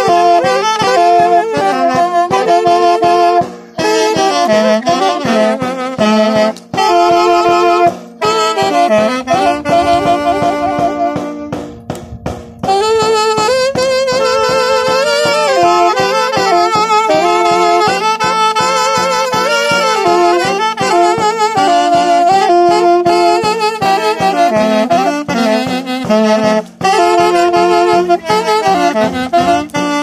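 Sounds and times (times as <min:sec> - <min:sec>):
hand drum beat: 0:00.0 - 0:30.0
saxophones playing in harmony: 0:00.0 - 0:30.0.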